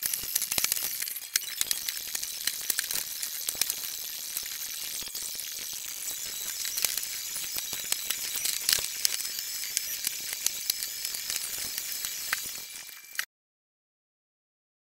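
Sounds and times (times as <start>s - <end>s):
sped-up clatter of ticks: 0.0s - 13.3s.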